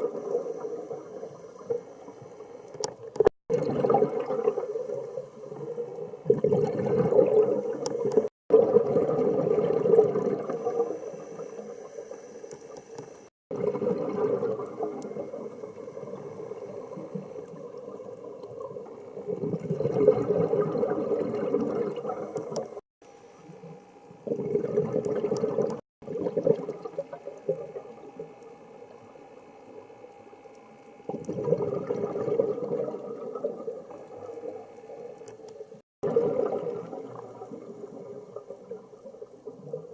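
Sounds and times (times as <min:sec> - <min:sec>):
exhaled bubbles underwater: 0:00.0 - 0:12.4, 0:13.5 - 0:22.8, 0:23.5 - 0:29.9, 0:31.0 - 0:35.2, 0:36.0 - 0:39.9.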